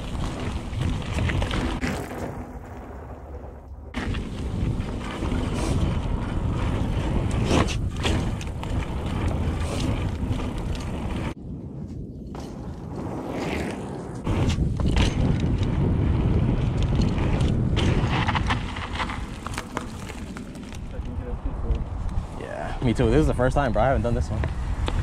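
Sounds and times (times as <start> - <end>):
bike rattling over bumps: 0.0 - 11.4, 12.2 - 21.9
tyres on dirt: 0.0 - 11.4, 12.0 - 21.2
wind on camera mic: 0.0 - 25.0.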